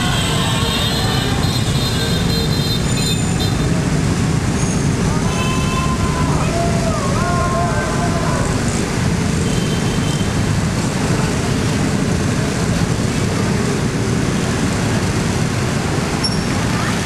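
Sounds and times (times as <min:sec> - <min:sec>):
crowd noise: 0:00.0 - 0:17.0
many vehicles running: 0:00.0 - 0:17.0.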